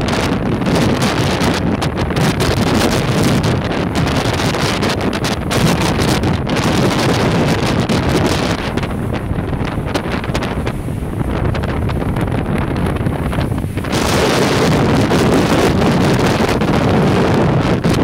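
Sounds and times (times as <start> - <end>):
water rushing past hulls: 0.0 - 18.0
wind buffeting microphone: 0.0 - 18.0.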